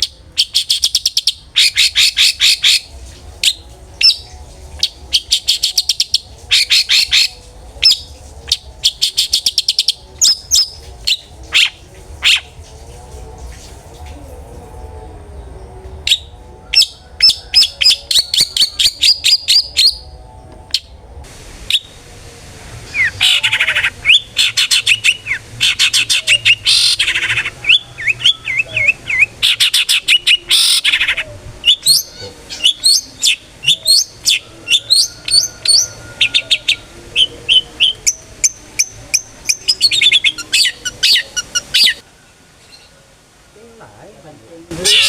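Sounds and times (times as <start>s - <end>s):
bird singing loudly: 0.0s - 12.6s, 15.4s - 21.0s, 22.9s - 42.0s.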